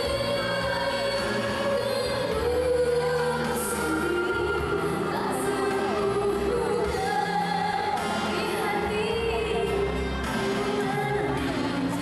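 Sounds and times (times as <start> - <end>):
musical accompaniment: 0.0 - 12.0
woman singing into microphone: 0.0 - 12.0.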